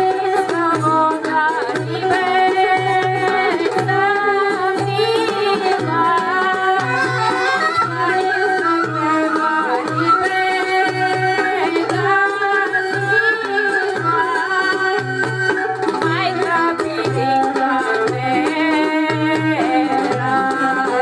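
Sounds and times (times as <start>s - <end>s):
folk melody with singing: 0.0s - 21.0s.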